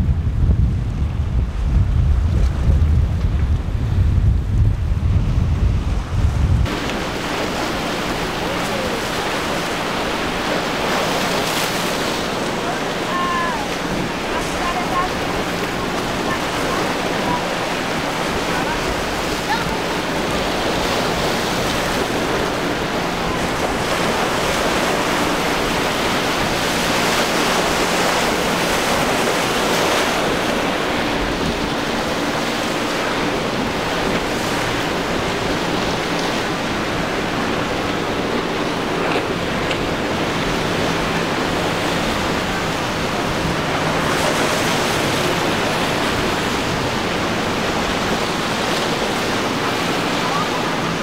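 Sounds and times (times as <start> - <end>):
faint boat engines hum: 0.0 - 51.0
surf breaking: 0.0 - 51.0
wind on microphone: 0.0 - 51.0.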